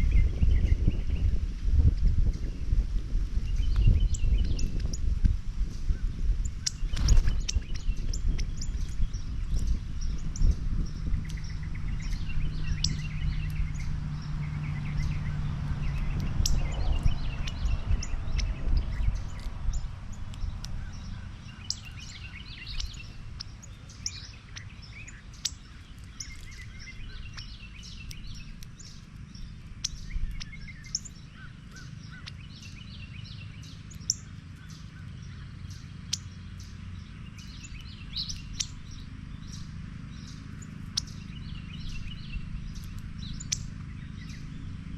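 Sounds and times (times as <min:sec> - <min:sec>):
low rumble: 0:00.0 - 0:44.9
wild birds chirping: 0:00.0 - 0:44.9.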